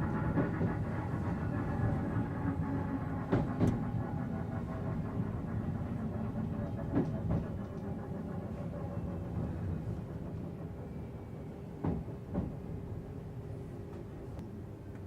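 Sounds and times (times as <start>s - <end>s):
train traction hum: 0.0s - 15.0s.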